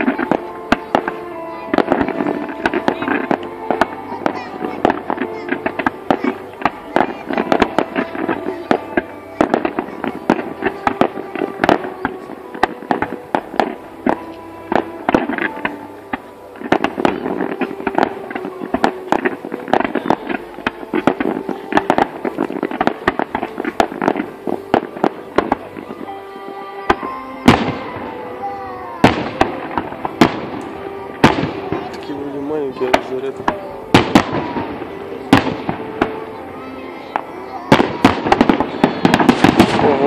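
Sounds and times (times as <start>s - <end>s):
aerial shell bursts echoing: 0.0s - 40.0s
fireworks crackling and popping: 0.0s - 40.0s
music playing: 0.0s - 40.0s.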